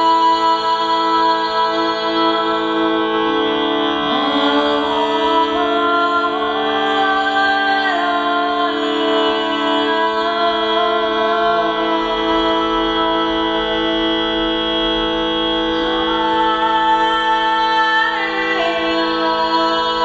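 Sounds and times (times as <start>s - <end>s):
woman singing wordless chant: 0.0s - 3.1s, 4.1s - 13.8s, 15.8s - 20.0s.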